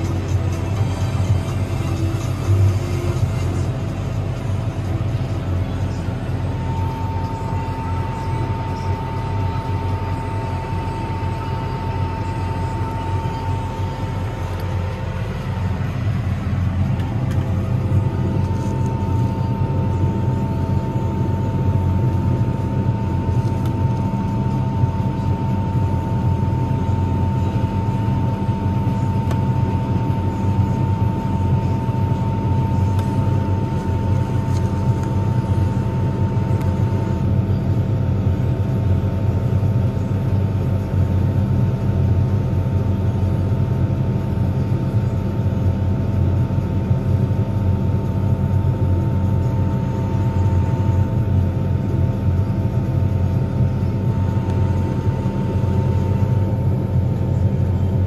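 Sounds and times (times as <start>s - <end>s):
combine harvester engine hum: 0.0s - 58.0s
high steady whine: 0.0s - 58.0s.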